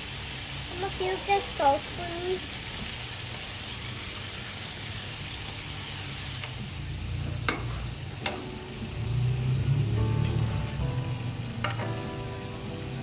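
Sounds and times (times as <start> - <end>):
food sizzling while frying: 0.0 - 13.0.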